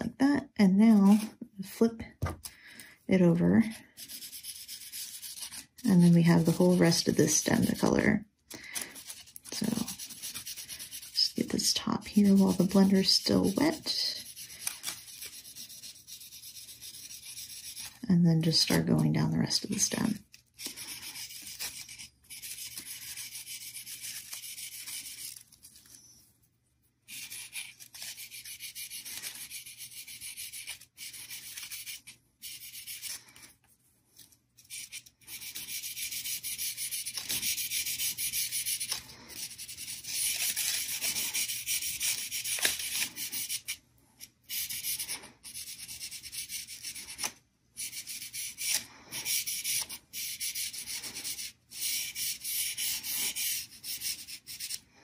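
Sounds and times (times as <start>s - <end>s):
marker scratching on crepe paper: 3.1s - 8.1s, 8.8s - 26.0s, 27.1s - 33.4s, 34.6s - 43.8s, 44.5s - 54.8s.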